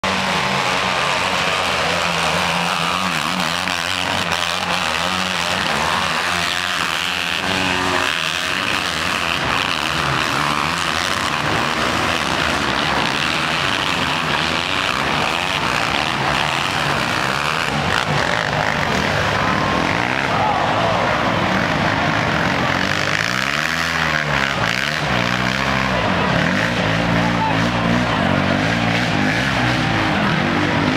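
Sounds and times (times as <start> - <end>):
quad engines revving: 0.0 - 30.9.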